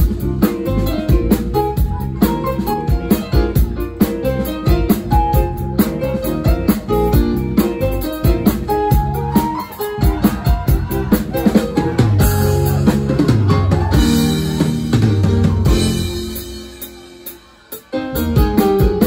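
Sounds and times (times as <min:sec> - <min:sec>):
bass notes: 0:00.0 - 0:19.0
drum kit beat: 0:00.0 - 0:19.0.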